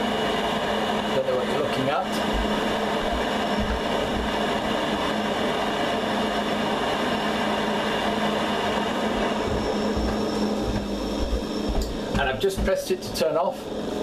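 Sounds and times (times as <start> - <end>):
gas boiler humming and rushing: 0.0 - 14.0.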